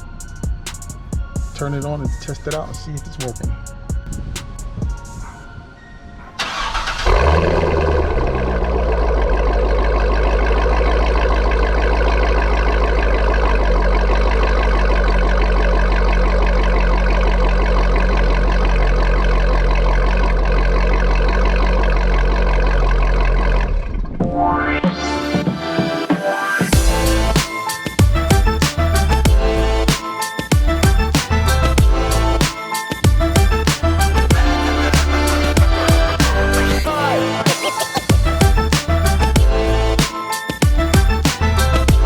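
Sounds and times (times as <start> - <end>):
car engine starting and idling: 0.0 - 24.3, 26.7 - 30.0, 30.6 - 37.4.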